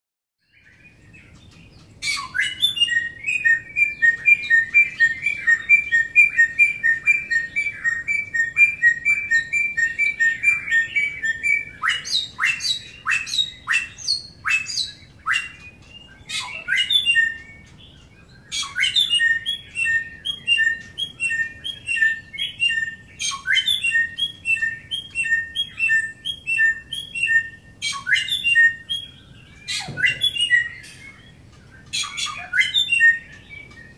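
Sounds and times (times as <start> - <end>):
bird whistling repeated notes: 0.6 - 33.9.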